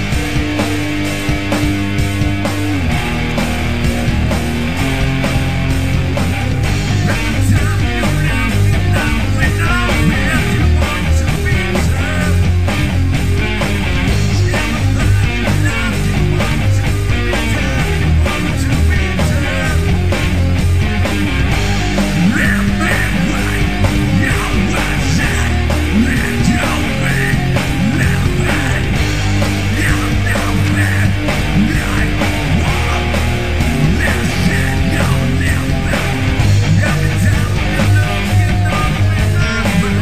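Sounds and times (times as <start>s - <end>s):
loud rock music: 0.0s - 40.0s.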